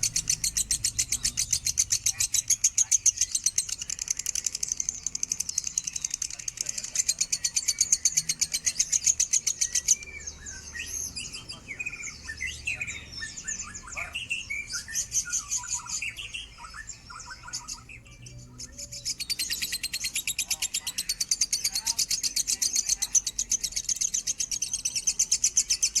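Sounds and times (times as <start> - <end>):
lovebird chattering trill: 0.0 - 17.9, 18.7 - 26.0.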